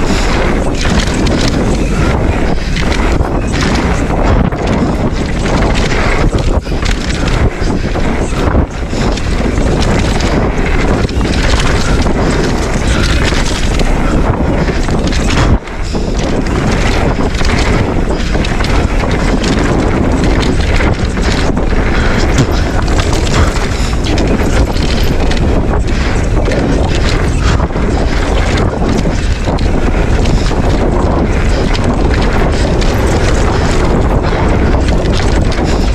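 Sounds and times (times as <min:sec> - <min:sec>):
mountain bike rumbling on dirt trail: 0:00.0 - 0:35.9
wind rushing over microphone: 0:00.0 - 0:35.9.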